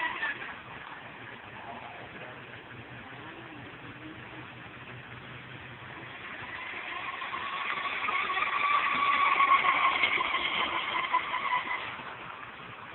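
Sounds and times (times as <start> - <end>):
rc boat motor whining: 0.0 - 12.9.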